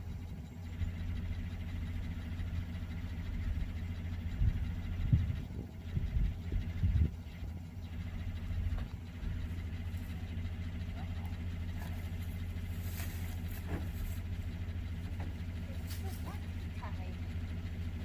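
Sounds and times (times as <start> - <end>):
engine knocks: 0.0 - 18.0
truck engine idling: 0.0 - 18.0.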